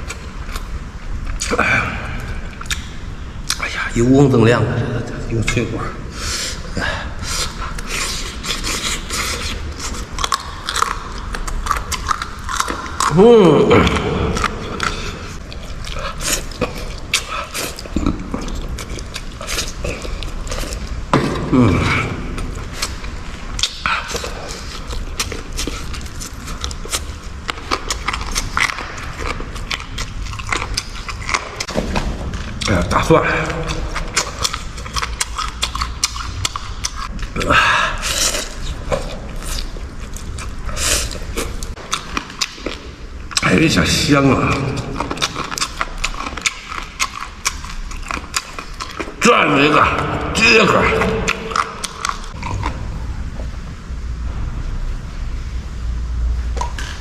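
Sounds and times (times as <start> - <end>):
crunchy chewing: 0.0 - 3.7, 6.4 - 53.6.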